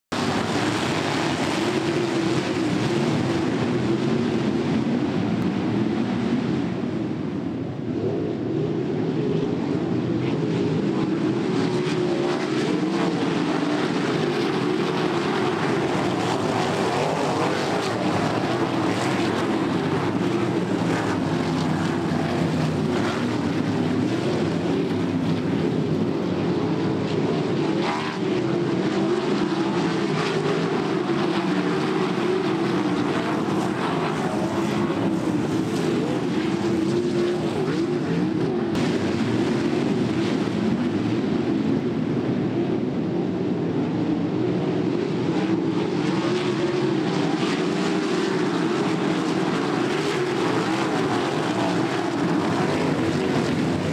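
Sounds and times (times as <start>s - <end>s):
racing car engines roaring: 0.1s - 53.9s.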